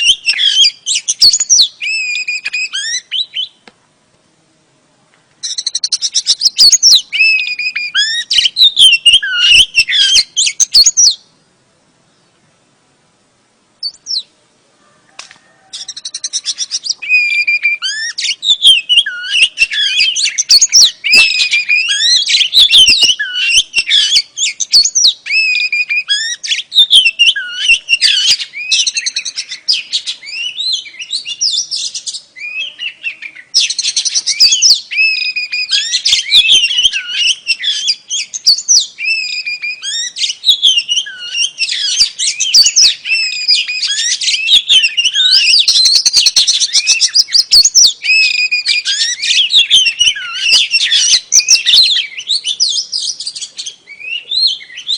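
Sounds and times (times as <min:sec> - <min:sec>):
bird chirping and whistling: 0:00.0 - 0:03.6, 0:05.4 - 0:11.3, 0:13.8 - 0:14.3, 0:15.7 - 0:54.9.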